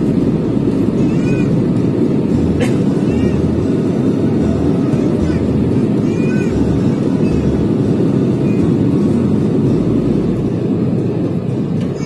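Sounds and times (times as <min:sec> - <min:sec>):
airliner low rumble: 0:00.0 - 0:12.0.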